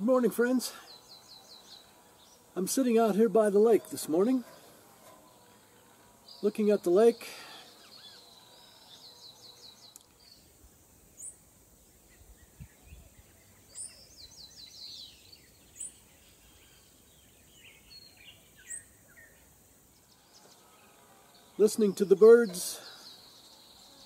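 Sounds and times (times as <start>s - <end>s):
bird chirps: 3.8s - 24.0s.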